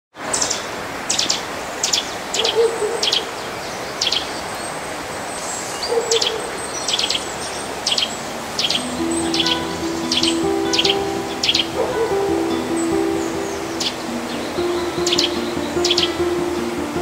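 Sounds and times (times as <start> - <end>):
steady outdoor hiss: 0.2 - 17.0
small bird chirping: 0.3 - 4.8, 5.4 - 17.0.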